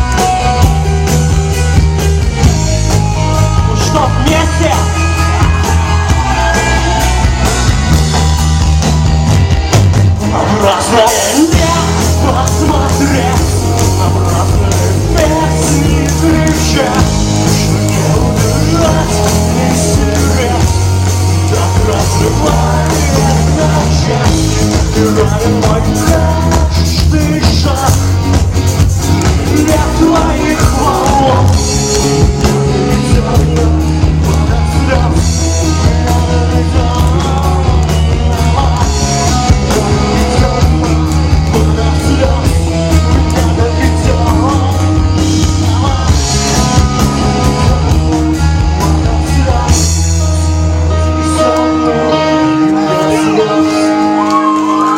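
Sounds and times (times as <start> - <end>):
bass line: 0.0 - 54.9
rock band playing live: 0.0 - 54.9
drum beat: 0.1 - 10.3, 11.3 - 48.1
person singing: 10.2 - 54.9.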